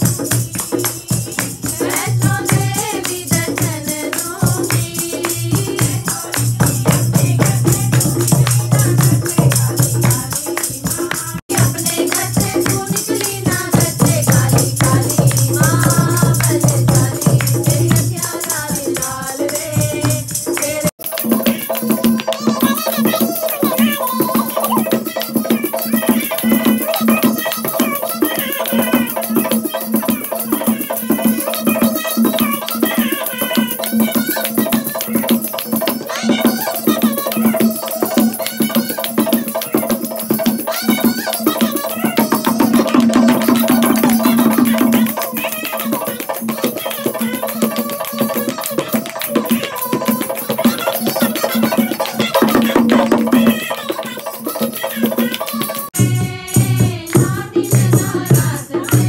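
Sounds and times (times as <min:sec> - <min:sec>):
hand clapping: 0:00.0 - 0:13.7, 0:14.3 - 0:56.0
drum: 0:00.0 - 0:54.2, 0:54.8 - 0:59.0
rattling percussion: 0:00.0 - 0:59.0
voices singing: 0:00.0 - 0:59.0.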